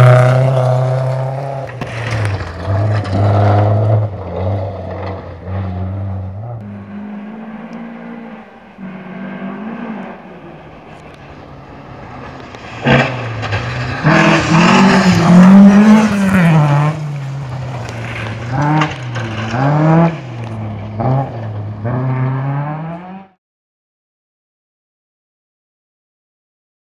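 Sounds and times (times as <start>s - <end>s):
rally car engine revving past: 0.0s - 23.4s.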